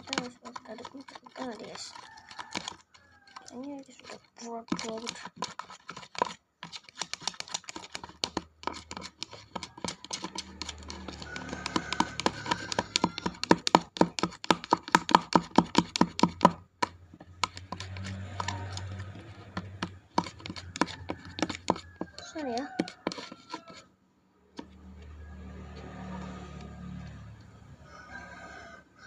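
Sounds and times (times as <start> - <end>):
slime being stirred: 0.0 - 23.9, 24.5 - 27.5.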